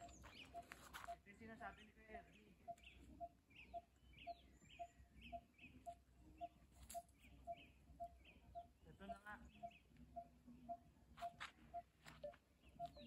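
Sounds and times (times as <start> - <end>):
low pip and higher chirp calls: 0.0 - 1.2, 2.2 - 13.0.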